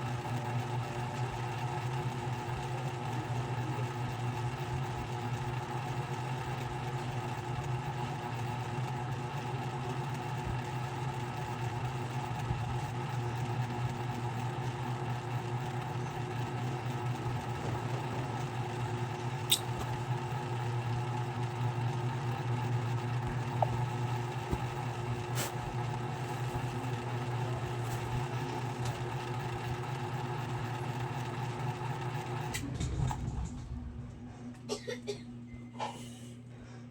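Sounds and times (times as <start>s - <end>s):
ceiling fan motor hum: 0.0s - 36.9s.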